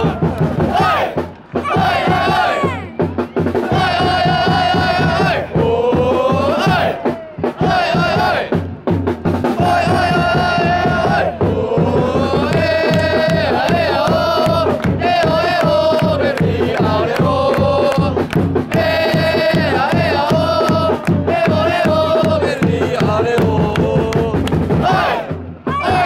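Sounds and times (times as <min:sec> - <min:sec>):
crowd chanting in unison: 0:00.0 - 0:08.8, 0:09.4 - 0:26.0
steady drumbeat: 0:00.0 - 0:26.0.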